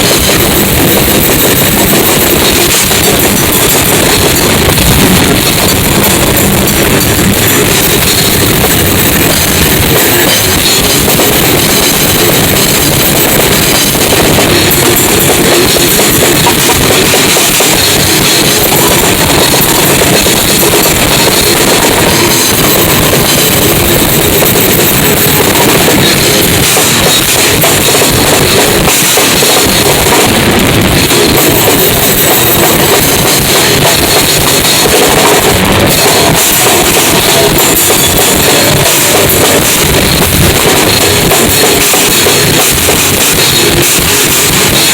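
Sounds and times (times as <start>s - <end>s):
bass drum: 0.0s - 44.9s
cymbals: 0.0s - 44.9s
rock band playing: 0.0s - 44.9s.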